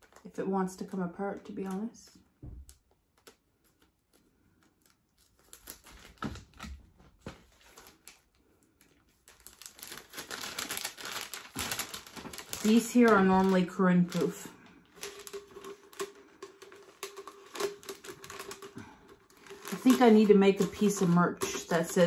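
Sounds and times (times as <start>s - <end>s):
plastic wrap crinkling: 0.0s - 22.0s.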